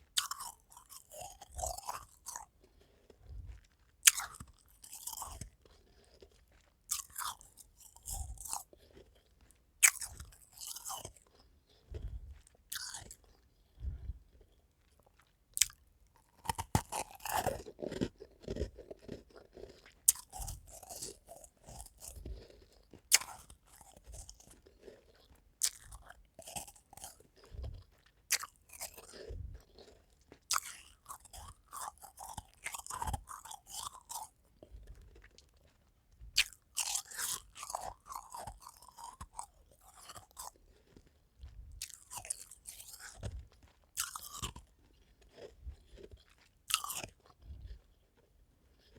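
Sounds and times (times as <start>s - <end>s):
chewing ice cubes crunching: 0.0s - 48.9s.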